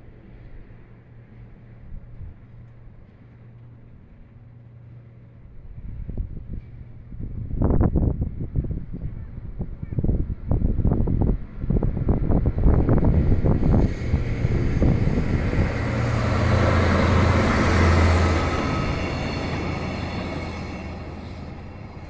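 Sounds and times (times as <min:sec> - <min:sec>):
wind rumbling on microphone: 0:00.0 - 0:04.0, 0:05.4 - 0:22.0
diesel locomotive engine drone: 0:00.0 - 0:22.0
railcars on rails: 0:00.0 - 0:22.0.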